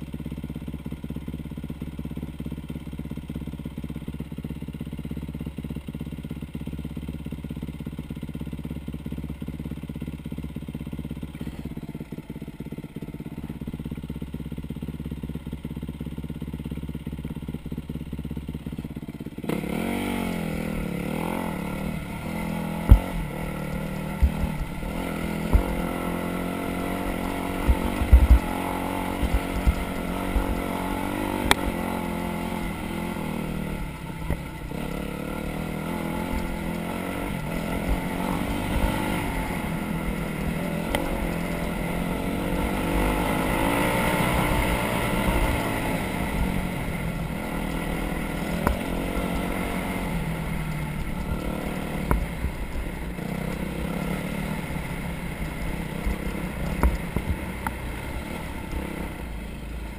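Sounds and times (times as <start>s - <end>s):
off-road vehicle engine: 0.0s - 59.9s.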